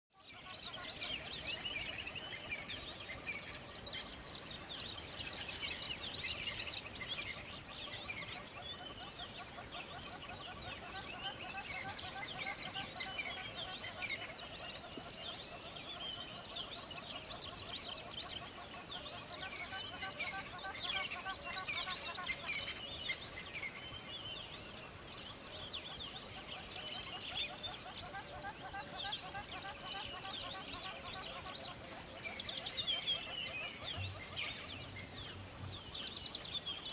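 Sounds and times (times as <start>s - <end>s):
songbirds chirping: 0.1s - 36.9s
faint background hiss: 0.2s - 36.9s.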